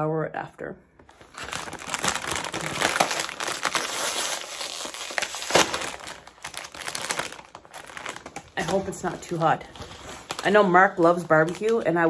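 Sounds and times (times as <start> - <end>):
chip bag crinkling: 1.1 - 12.0.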